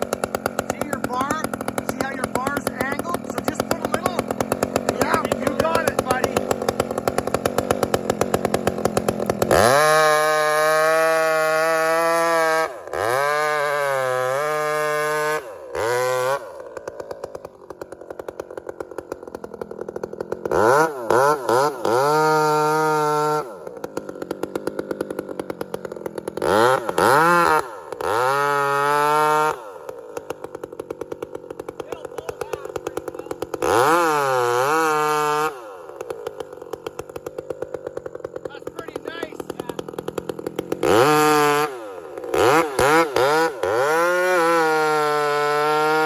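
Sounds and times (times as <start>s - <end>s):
chainsaw revving and idling: 0.0s - 46.0s.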